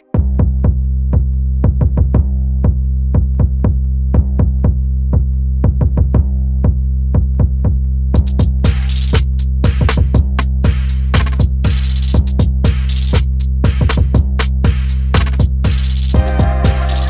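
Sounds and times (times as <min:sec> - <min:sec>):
drum machine beat: 0:00.0 - 0:17.0
heavy bass: 0:00.0 - 0:17.0.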